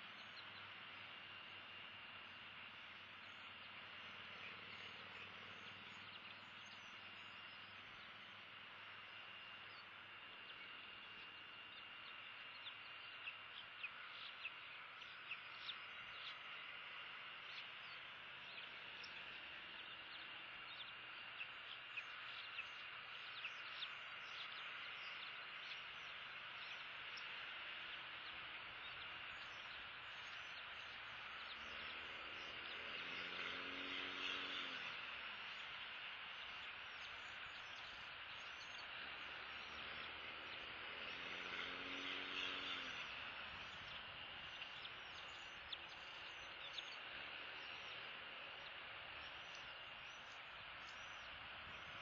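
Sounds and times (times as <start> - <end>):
insects droning: 0.0 - 52.0
low hum: 0.0 - 52.0.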